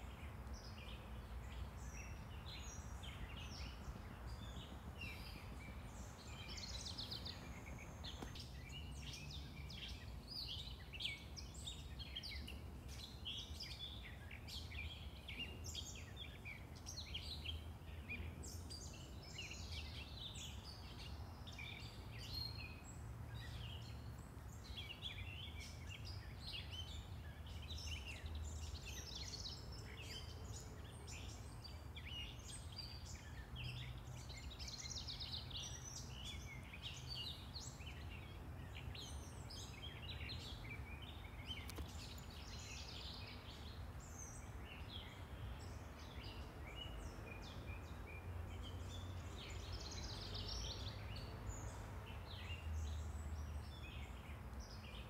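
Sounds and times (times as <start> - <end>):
birds calling and chirping: 0.0 - 55.0
low traffic rumble: 0.0 - 55.0.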